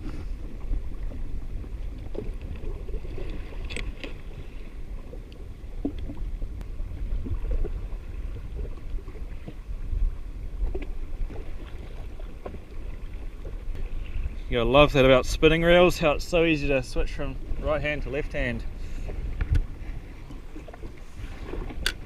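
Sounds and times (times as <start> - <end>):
wind: 0.0 - 22.0.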